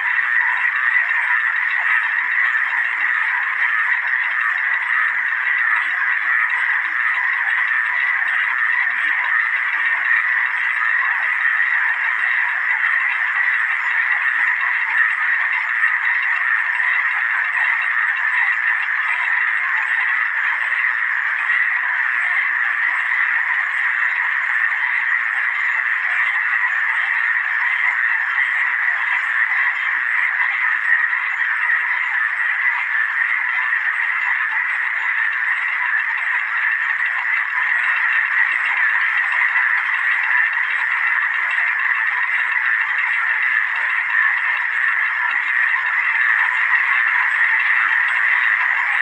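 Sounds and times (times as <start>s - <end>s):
chorus of frogs calling: 0.0s - 49.0s.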